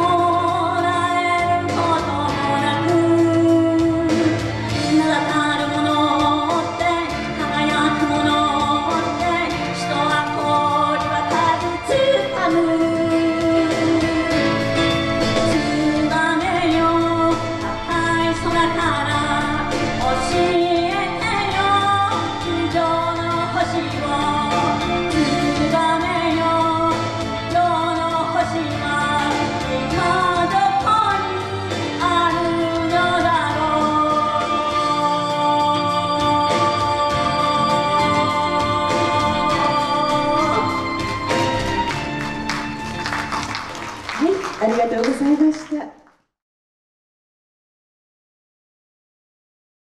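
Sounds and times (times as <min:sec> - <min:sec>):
woman singing pop song: 0:00.0 - 0:41.9
instrumental backing music: 0:00.0 - 0:45.5.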